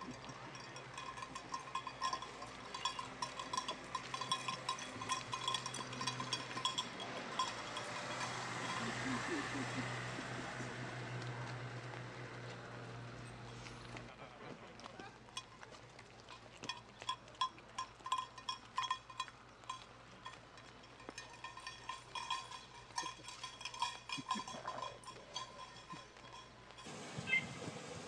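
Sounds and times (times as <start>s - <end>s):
goat bell clinking: 0.0s - 11.3s, 15.0s - 27.0s.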